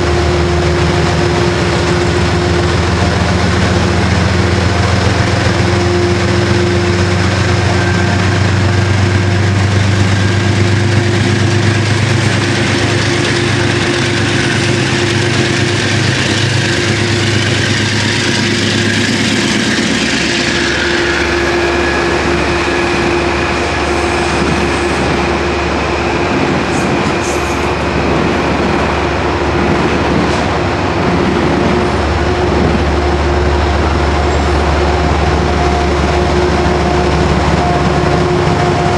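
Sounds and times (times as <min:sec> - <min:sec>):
diesel locomotive engine drone: 0:00.0 - 0:38.9
train wheels rolling on rails: 0:00.0 - 0:38.9.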